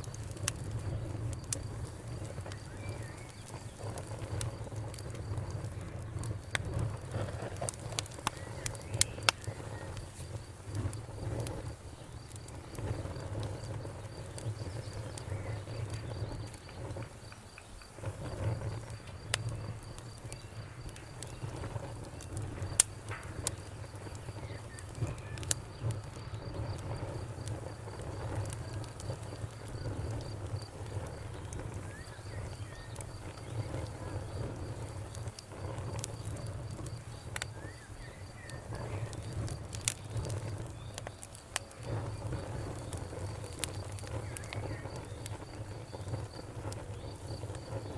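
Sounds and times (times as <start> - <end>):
wood fire crackling: 0.0 - 47.9
cricket chirping: 0.1 - 47.9.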